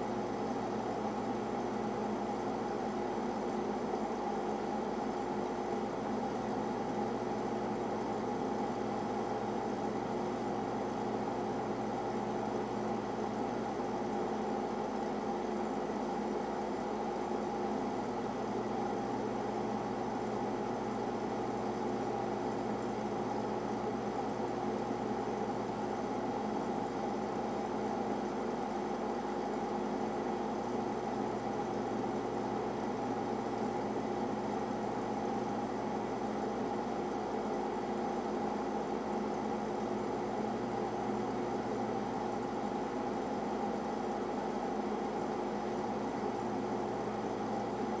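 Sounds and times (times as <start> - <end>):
boiler machinery humming: 0.0 - 48.0.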